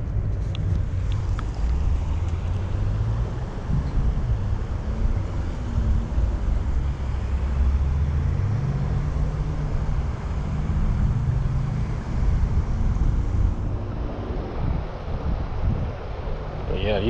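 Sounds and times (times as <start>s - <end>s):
low engine hum: 0.0s - 17.0s
steady rushing noise: 0.0s - 17.0s.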